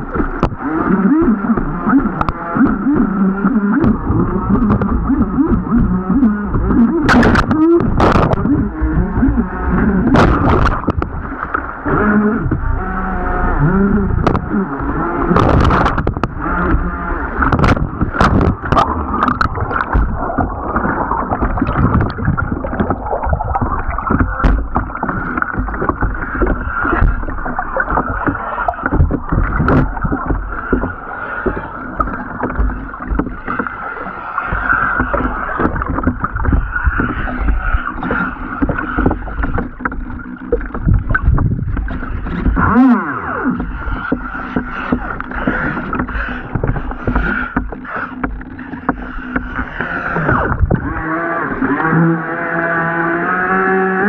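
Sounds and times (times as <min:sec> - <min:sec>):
sharp knocks and clicks: 0:00.0 - 0:11.7, 0:14.1 - 0:14.6, 0:15.2 - 0:33.8, 0:34.5 - 0:50.9
motor whine: 0:00.0 - 0:54.0
water rushing and splashing: 0:00.0 - 0:54.0.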